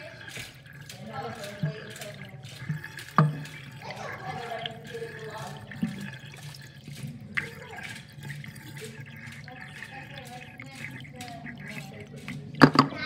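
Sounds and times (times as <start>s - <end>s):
water swirling down sink drain: 0.0s - 13.0s.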